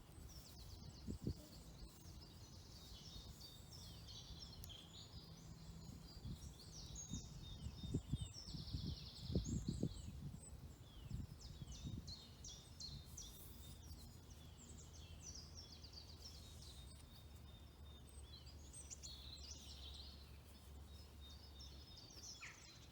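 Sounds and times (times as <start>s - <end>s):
songbirds chirping and singing: 0.0s - 22.9s.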